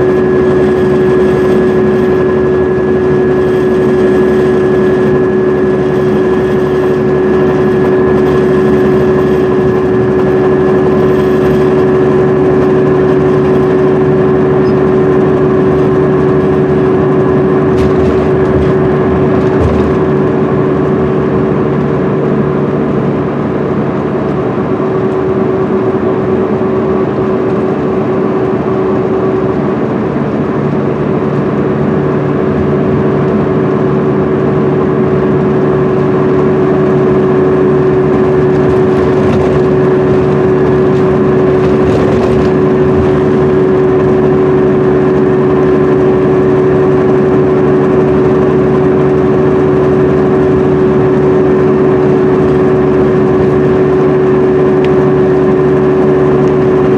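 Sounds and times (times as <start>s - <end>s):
diesel engine drone with whine: 0.0s - 56.9s
road noise: 0.0s - 56.9s.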